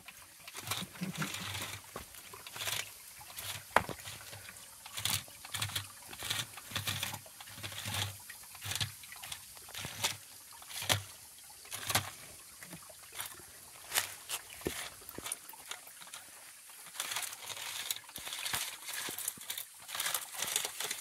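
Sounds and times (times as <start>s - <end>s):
toy car scrabbling on rock: 0.0s - 12.3s, 13.1s - 21.0s
faint trickle of water: 0.0s - 21.0s.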